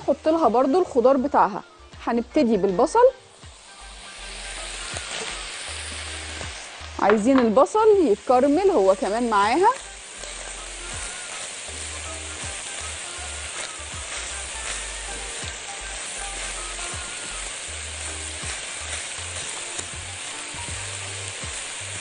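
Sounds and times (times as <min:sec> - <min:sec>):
meat and onions sizzling in a pan: 0:00.0 - 0:22.0.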